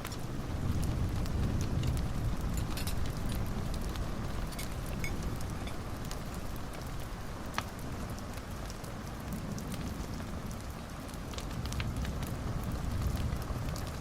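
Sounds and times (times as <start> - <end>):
fire snap: 0.0 - 14.0
wood fire crackling: 0.0 - 14.0.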